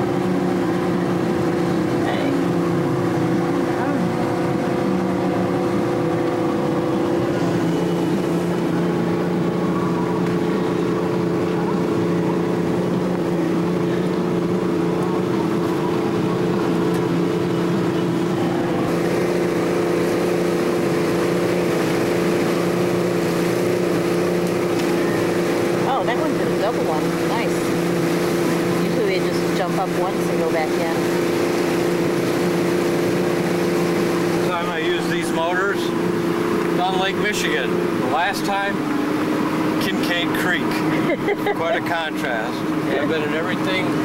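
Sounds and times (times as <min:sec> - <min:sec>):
outboard motor drone: 0:00.0 - 0:44.0
rushing water: 0:00.0 - 0:44.0
wind: 0:00.0 - 0:44.0.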